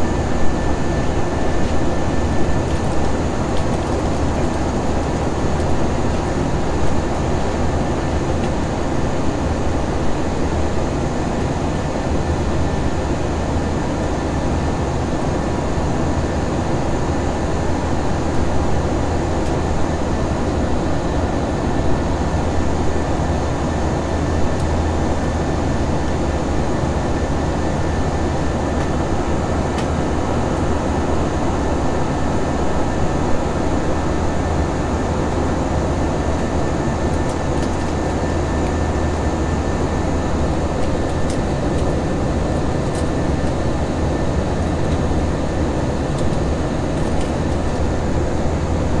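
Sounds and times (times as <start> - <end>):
low drone of jet engines: 0.0 - 49.0.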